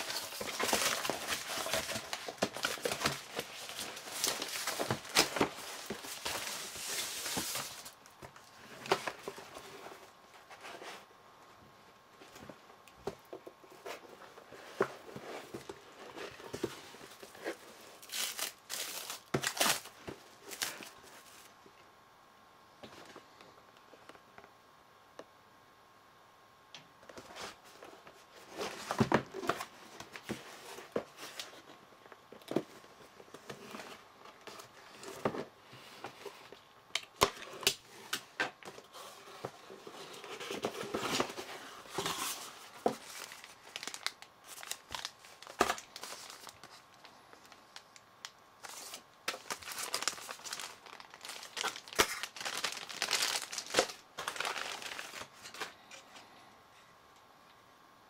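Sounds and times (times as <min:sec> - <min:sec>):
packaging crinkling and rustling: 0:00.0 - 0:11.1, 0:12.2 - 0:21.6, 0:27.1 - 0:56.1.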